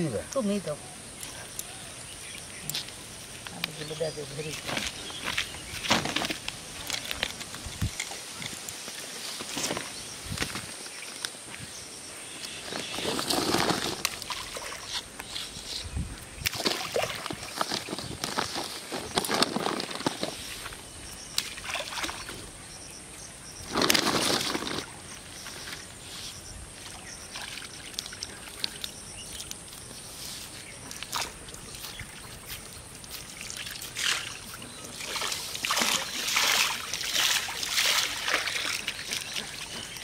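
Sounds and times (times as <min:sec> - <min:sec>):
water splashing and sloshing: 0:02.1 - 0:11.6, 0:12.5 - 0:15.6, 0:16.4 - 0:22.6, 0:23.6 - 0:26.1, 0:26.7 - 0:40.0.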